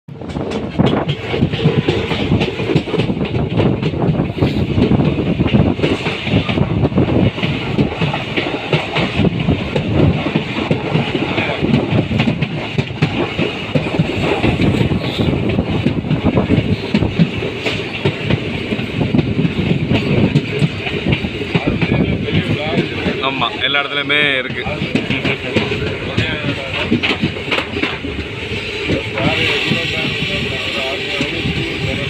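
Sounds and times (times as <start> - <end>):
wheels clattering over rails: 0.1 - 30.5
train rumble and rush: 0.1 - 32.0.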